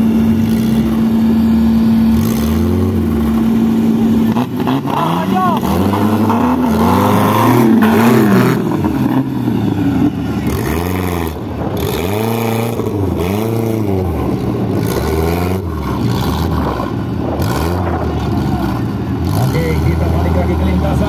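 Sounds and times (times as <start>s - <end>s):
buggy engine revving: 0.0s - 21.0s.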